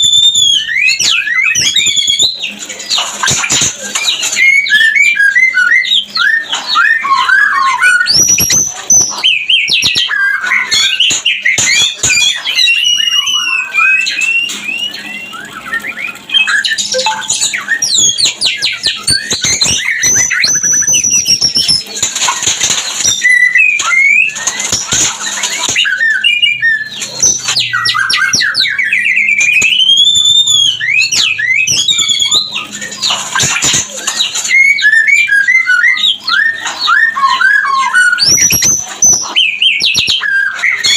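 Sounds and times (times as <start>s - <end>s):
bird singing whistled phrases: 0.0s - 22.0s, 23.0s - 40.9s
bird scratchy rattles and chatter: 1.0s - 4.8s, 7.8s - 28.8s, 29.5s - 40.9s.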